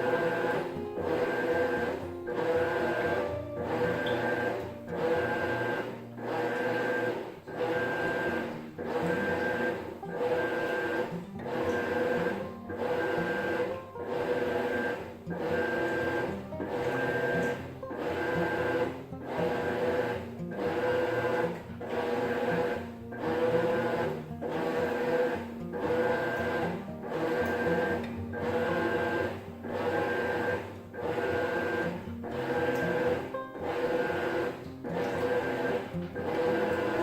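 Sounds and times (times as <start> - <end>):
washing machine whine: 0.0 - 37.0.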